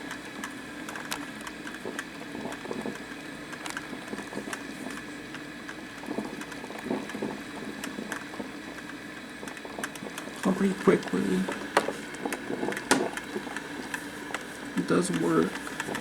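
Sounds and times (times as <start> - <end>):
coffee maker bubbling hiss: 0.0 - 16.0
crackling ticks: 0.0 - 16.0.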